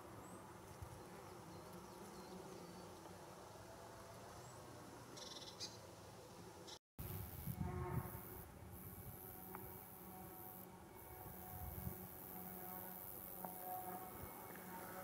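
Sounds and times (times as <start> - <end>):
bumblebees buzzing: 0.1 - 15.0.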